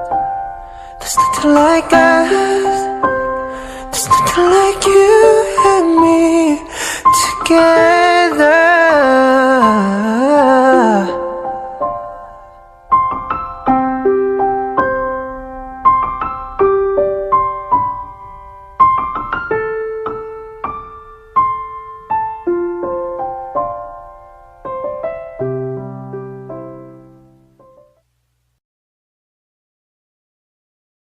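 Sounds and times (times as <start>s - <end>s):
slow solo piano: 0.0s - 28.0s.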